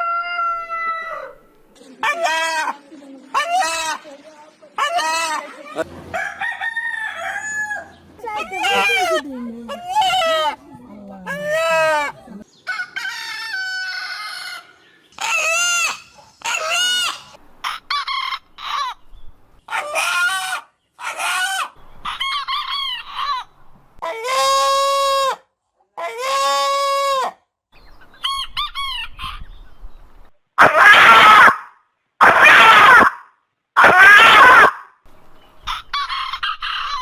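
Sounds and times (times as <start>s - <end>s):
chicken calls: 0.0s - 10.6s, 11.2s - 29.8s, 30.6s - 34.9s, 35.5s - 37.0s.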